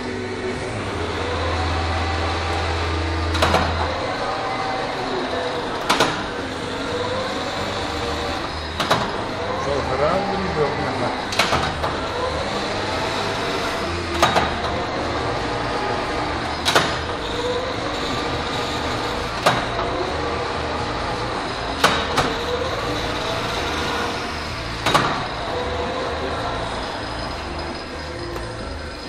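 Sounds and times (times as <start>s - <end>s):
metal lathe cutting steel: 0.0s - 29.0s.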